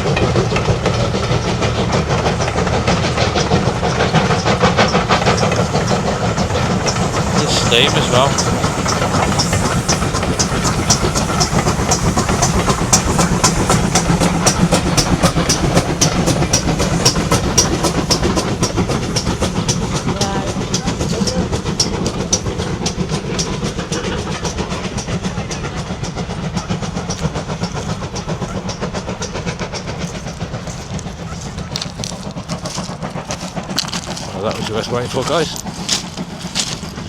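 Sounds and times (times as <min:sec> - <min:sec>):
train wheels clickety-clack: 0:00.0 - 0:37.0.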